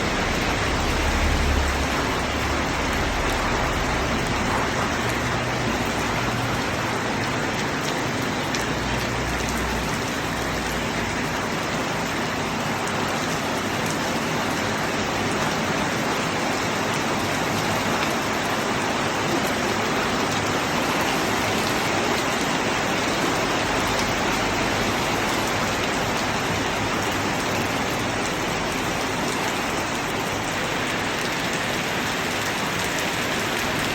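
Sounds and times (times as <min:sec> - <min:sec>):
steady rainfall: 0:00.0 - 0:33.9.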